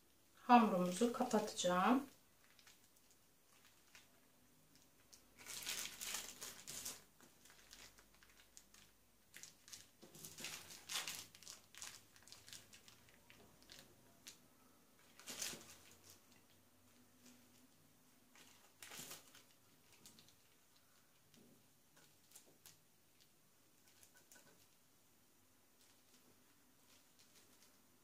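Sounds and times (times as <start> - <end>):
plastic sheet crinkling: 0.7 - 21.4, 22.0 - 24.8, 25.8 - 28.0.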